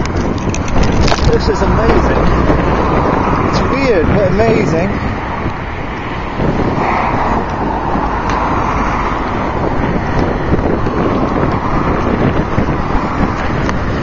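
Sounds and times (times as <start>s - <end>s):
road traffic rumble: 0.0s - 14.0s
wind buffeting microphone: 0.0s - 14.0s.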